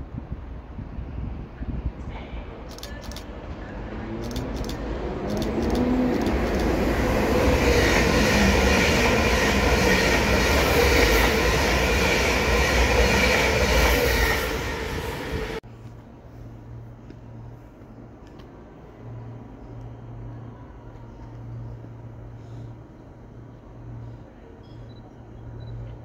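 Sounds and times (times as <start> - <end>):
wheels rumbling on rail: 0.0 - 24.5.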